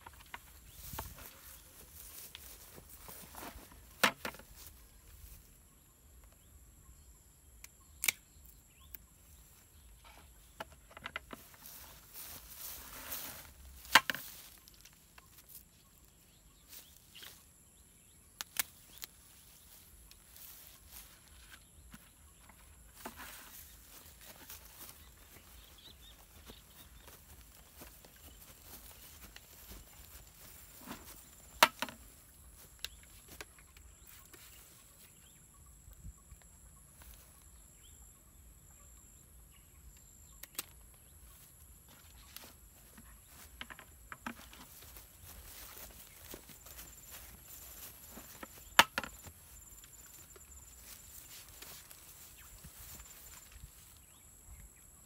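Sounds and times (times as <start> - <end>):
rustling grass and cactus stems: 0.0 - 6.5, 8.0 - 35.6, 40.2 - 54.6
high insect hum: 0.0 - 55.0.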